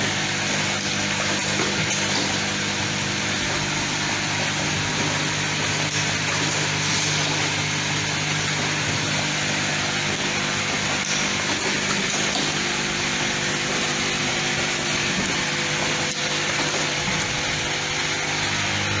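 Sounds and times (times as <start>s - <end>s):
machine running with low hum: 0.0s - 19.0s.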